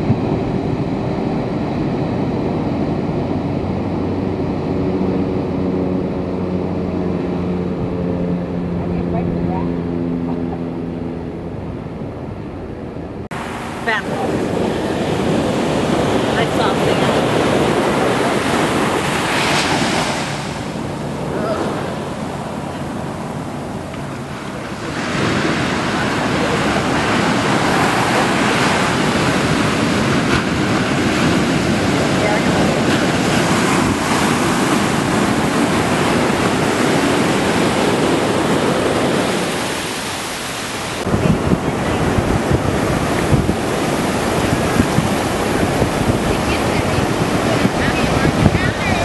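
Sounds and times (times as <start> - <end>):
waves breaking on a beach: 0.0 - 11.0, 13.3 - 49.0
wind buffeting microphone: 0.0 - 49.0.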